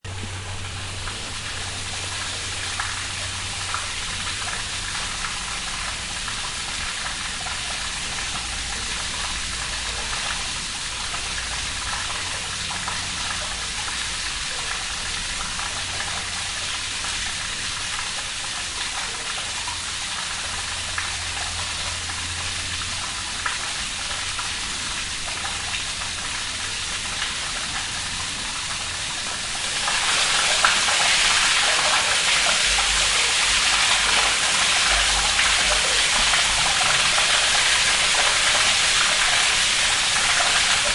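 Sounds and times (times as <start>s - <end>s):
water rushing through sewer: 0.0s - 40.9s.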